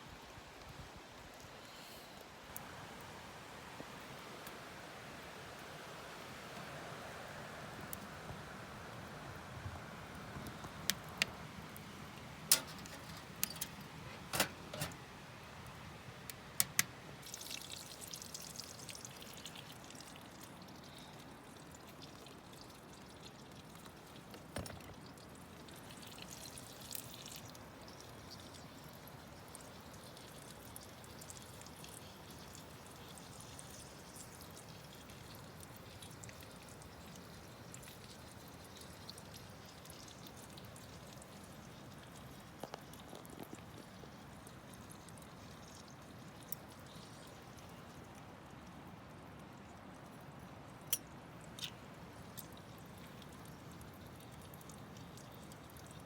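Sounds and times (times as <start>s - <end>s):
water trickling: 7.6s - 56.0s.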